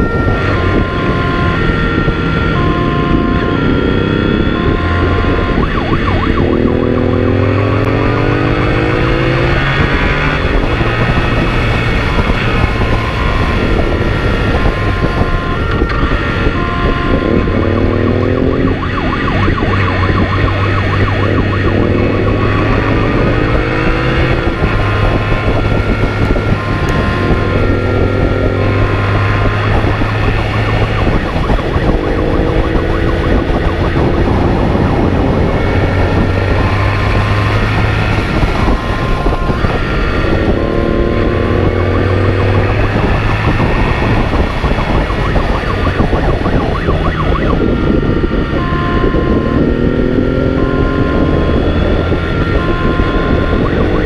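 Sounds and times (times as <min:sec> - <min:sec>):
motorcycle engine accelerating: 0:00.0 - 0:54.0
road noise: 0:00.0 - 0:54.0
two-tone siren: 0:00.0 - 0:54.0.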